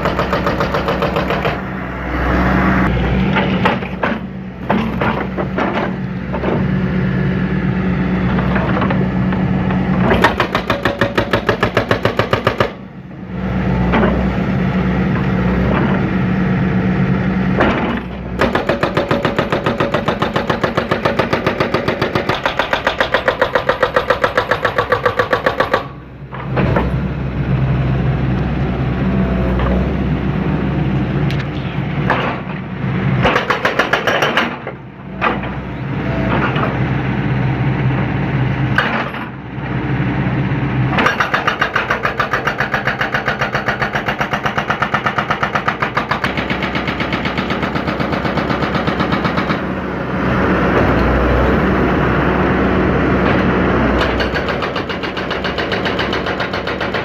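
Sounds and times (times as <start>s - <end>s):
excavator diesel engine under load: 0.0s - 57.0s.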